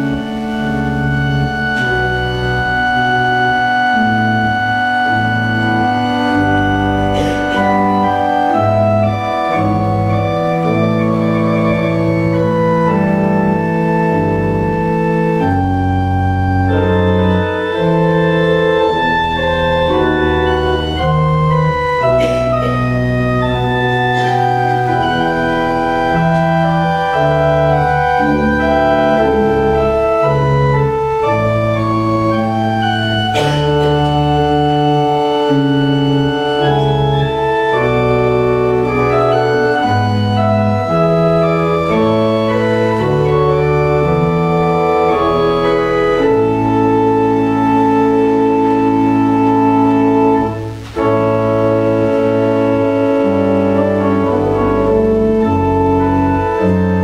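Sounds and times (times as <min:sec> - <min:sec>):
church organ playing chords: 0:00.0 - 0:57.0.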